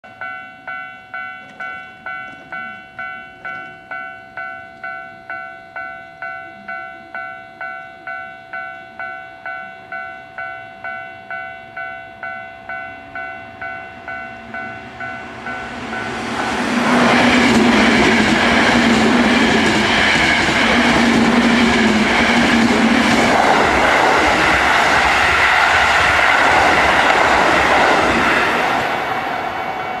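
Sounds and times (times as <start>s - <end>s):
level crossing warning bell: 0.1s - 26.1s
train wheel and rail noise: 0.1s - 30.0s
electric trains passing: 0.2s - 30.0s.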